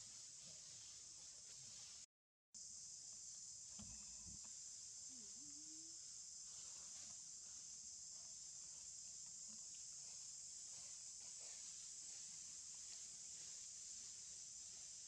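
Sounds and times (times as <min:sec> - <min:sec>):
high-pitched insect drone: 0:02.6 - 0:15.0.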